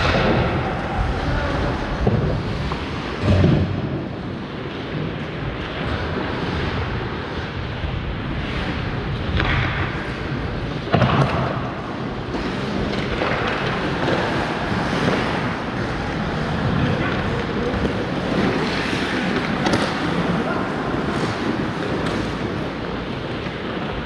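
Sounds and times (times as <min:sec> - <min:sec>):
ice rink noisy rush: 0:00.0 - 0:24.0.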